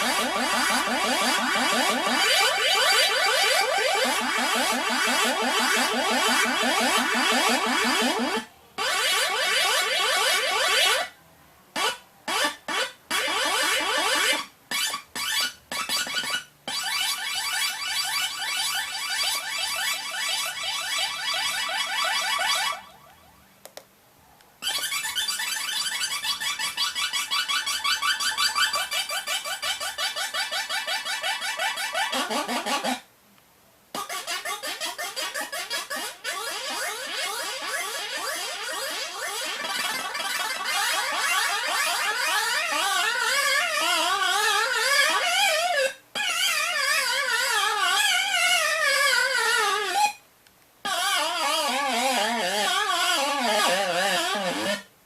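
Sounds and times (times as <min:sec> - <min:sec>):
buzzy warbling synthesizer tones: 0:00.0 - 0:11.2, 0:11.8 - 0:23.5, 0:24.6 - 0:33.0, 0:34.0 - 0:50.2, 0:50.9 - 0:54.9.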